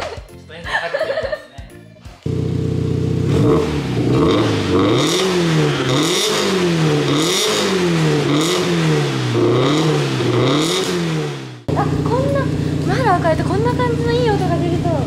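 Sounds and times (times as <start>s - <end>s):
car engine revving: 2.3s - 15.0s.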